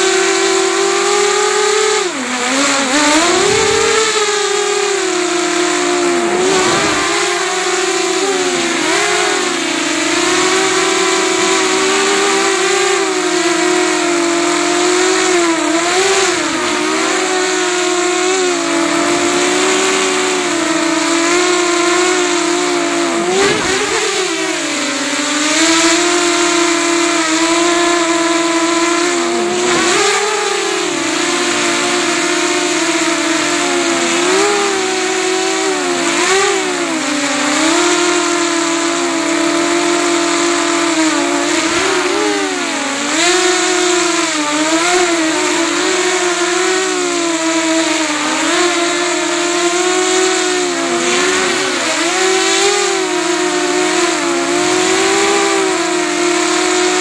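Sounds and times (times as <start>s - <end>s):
drone motors and propellers whining: 0.0s - 57.0s.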